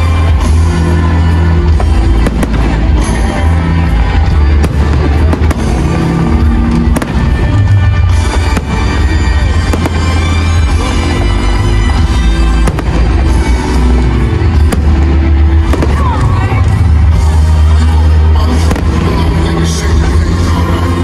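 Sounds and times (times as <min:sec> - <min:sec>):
fireworks bangs and crackle: 0:00.0 - 0:21.0
loud music with heavy bass: 0:00.0 - 0:21.0.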